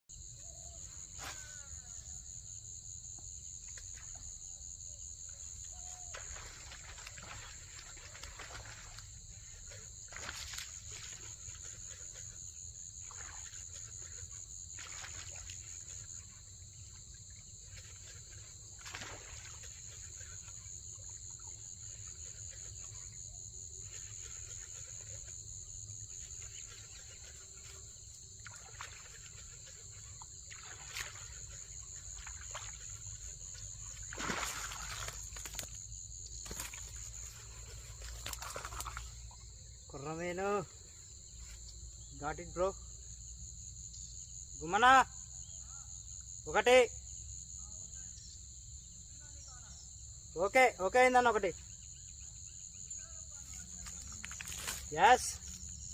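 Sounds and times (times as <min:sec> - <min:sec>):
insect chorus buzzing: 0:00.1 - 0:55.9.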